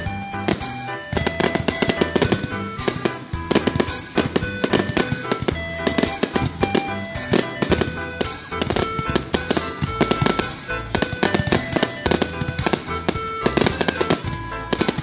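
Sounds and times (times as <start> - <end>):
fireworks bangs and crackles: 0.0 - 15.0
loud music with bass line: 0.0 - 15.0.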